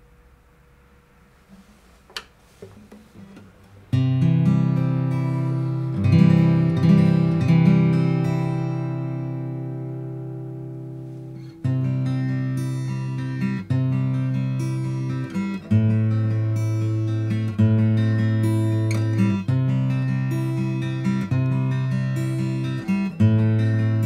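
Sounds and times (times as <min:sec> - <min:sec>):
acoustic guitar chord strummed: 0:03.1 - 0:24.0.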